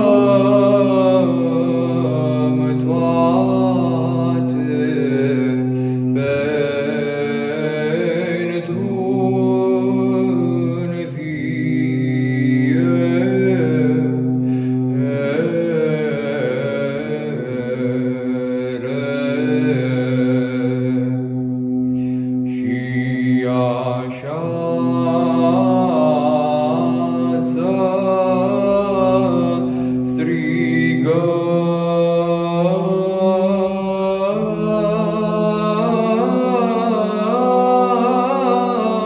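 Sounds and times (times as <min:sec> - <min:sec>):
low sung drone: 0:00.0 - 0:39.0
man chanting melody: 0:00.0 - 0:39.0.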